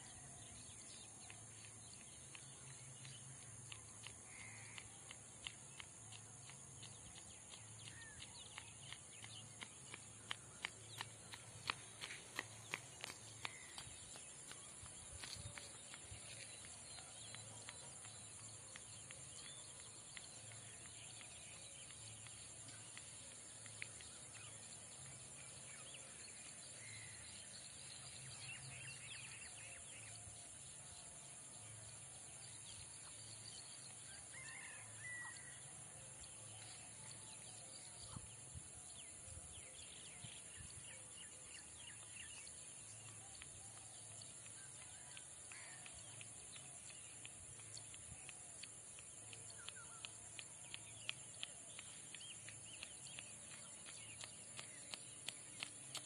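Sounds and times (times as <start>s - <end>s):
steady high-pitched hiss: 0.0s - 56.0s.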